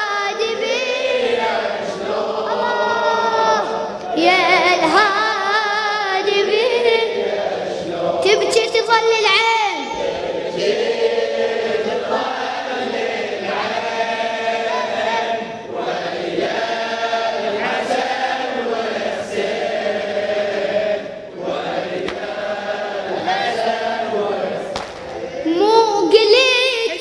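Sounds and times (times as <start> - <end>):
group of voices chanting: 0.0 - 26.2.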